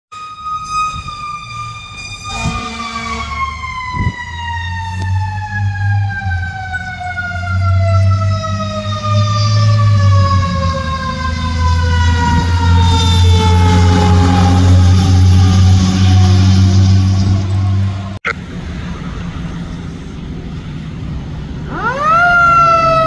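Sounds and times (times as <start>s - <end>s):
fire engine siren winding down: 0.1s - 18.2s, 20.9s - 23.0s
diesel engine rumble: 0.2s - 23.0s.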